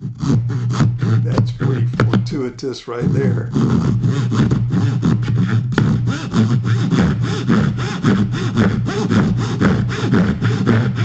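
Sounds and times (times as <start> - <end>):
hand saw rasping through wood: 0.0 - 11.0.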